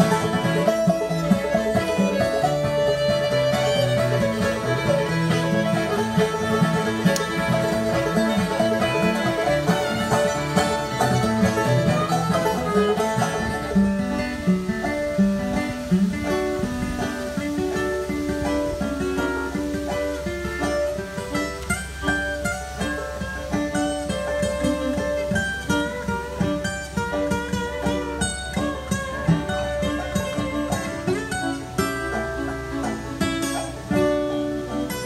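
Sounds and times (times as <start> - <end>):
string band playing: 0.0 - 35.0.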